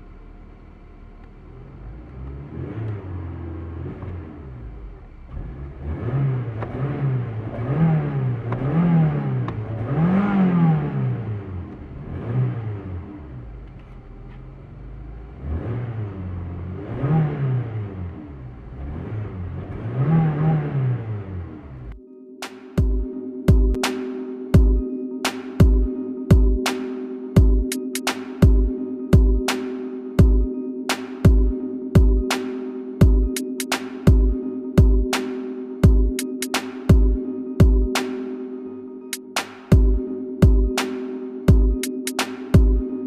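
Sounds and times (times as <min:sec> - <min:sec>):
car engine idling and revving: 0:00.0 - 0:22.0, 0:22.8 - 0:43.0.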